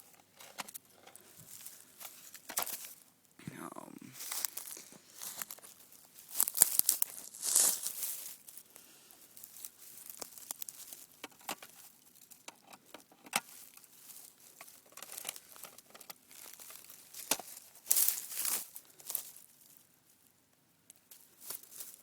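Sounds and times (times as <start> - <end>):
rustling of dry ground cover: 0.0 - 3.2, 3.8 - 20.4, 21.0 - 22.0.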